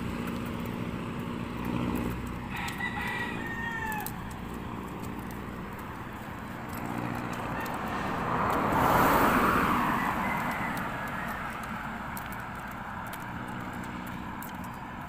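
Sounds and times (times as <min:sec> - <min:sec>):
steady traffic noise: 0:00.0 - 0:15.0
vehicle passing close by: 0:00.0 - 0:15.0.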